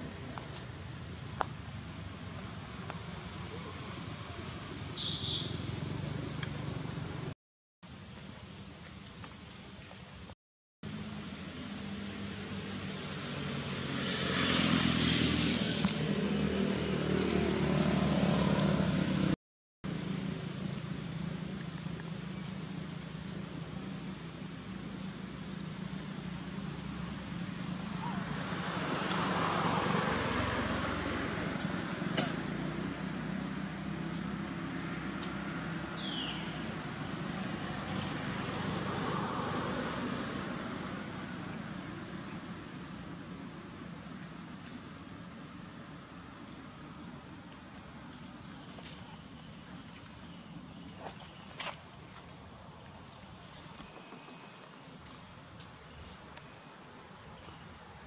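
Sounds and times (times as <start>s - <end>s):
distant road traffic: 0.0s - 58.0s.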